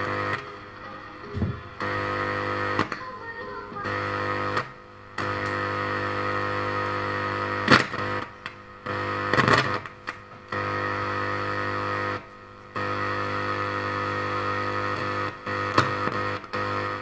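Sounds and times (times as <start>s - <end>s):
electrical hum from speakers: 0.0s - 17.0s.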